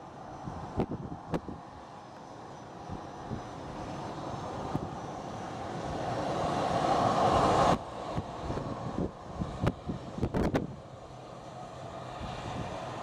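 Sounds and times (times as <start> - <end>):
propeller airplane engines droning: 0.0 - 13.0.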